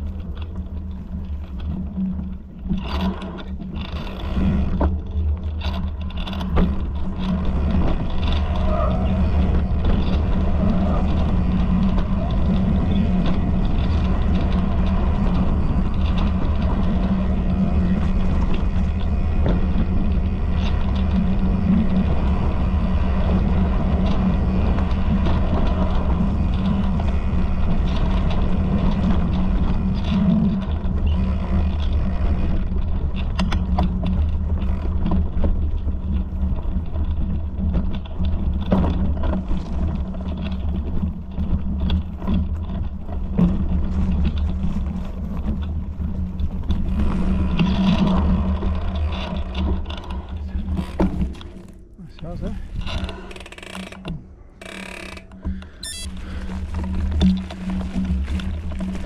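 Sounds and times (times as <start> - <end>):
low rumble of trail ride: 0.0 - 59.0
rattles and knocks over bumps: 0.0 - 59.0.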